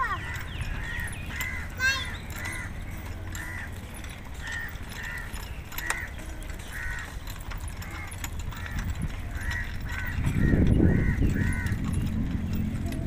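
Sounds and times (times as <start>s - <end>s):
crows cawing: 0.0s - 3.8s, 4.4s - 11.9s.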